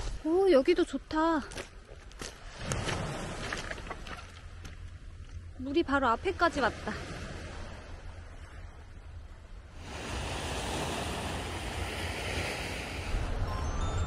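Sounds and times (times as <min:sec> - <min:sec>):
waves on a stony shore: 0:00.0 - 0:14.0.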